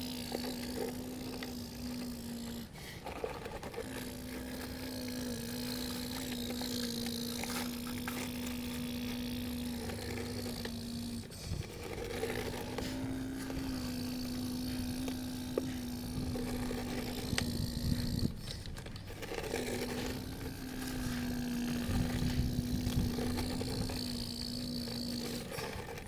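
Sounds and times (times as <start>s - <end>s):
small electric motor humming: 0.0s - 26.0s.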